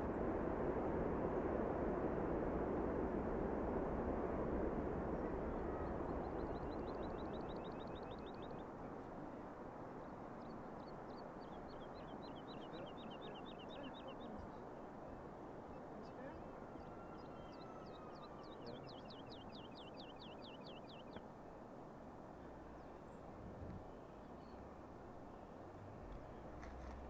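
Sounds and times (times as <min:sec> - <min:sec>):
steady rushing noise: 0:00.0 - 0:27.0.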